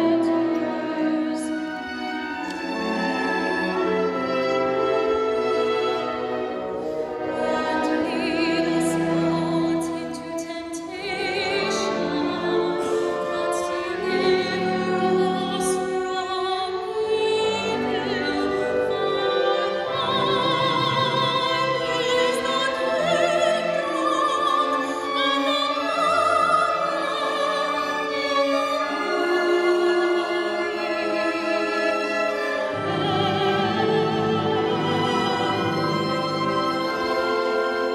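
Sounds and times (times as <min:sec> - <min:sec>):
orchestral accompaniment: 0:00.0 - 0:37.9
classical solo singing: 0:07.0 - 0:37.9.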